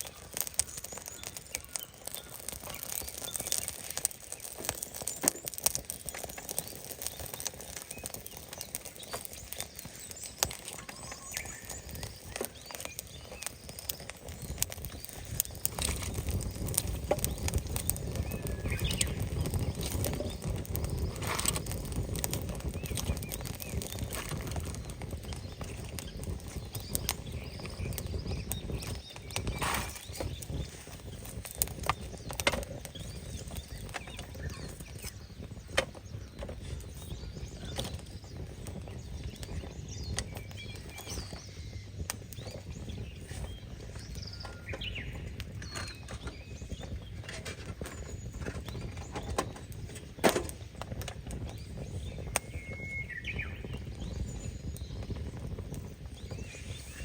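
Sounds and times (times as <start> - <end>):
faint bird chirp: 0.0 - 50.1, 51.3 - 57.0
outdoor background noise: 0.0 - 57.0
rustling of camping gear: 0.0 - 57.0.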